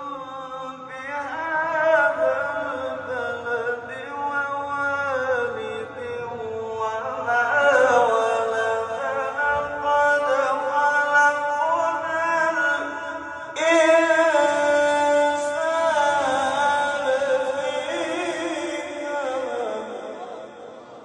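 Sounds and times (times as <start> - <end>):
man chanting a recitation: 0.0 - 21.0.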